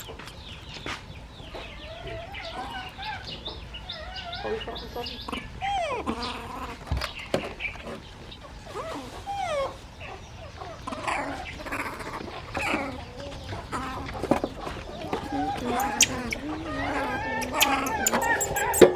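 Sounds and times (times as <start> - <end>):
baby birds chirping: 0.0 - 18.9
baby monkeys squealing: 1.5 - 18.9.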